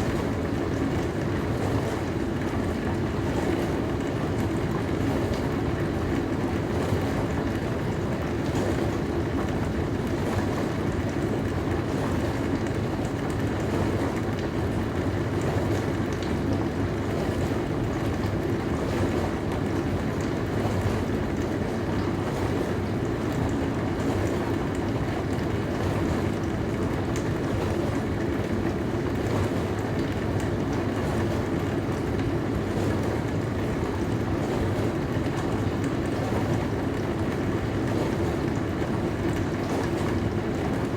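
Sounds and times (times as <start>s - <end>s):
dishwasher running: 0.0s - 40.9s.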